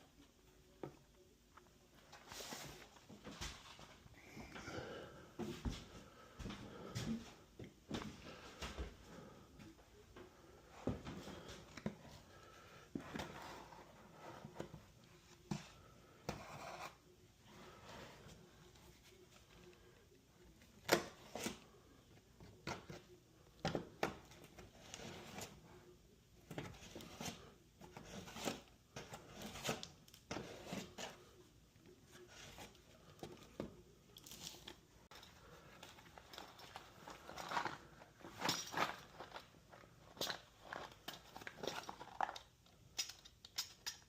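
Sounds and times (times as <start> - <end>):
scraping and crinkling handwork: 0.1 - 4.6, 5.4 - 44.0.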